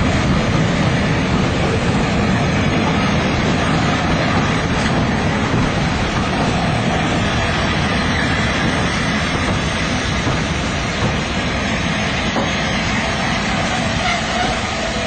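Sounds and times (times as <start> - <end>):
steel wheels on rails: 0.0 - 15.0.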